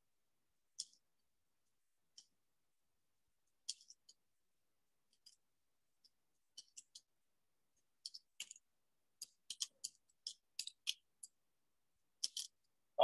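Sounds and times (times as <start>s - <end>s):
faint sharp clicks and taps: 0.7s - 2.4s, 3.4s - 4.4s, 5.0s - 12.8s.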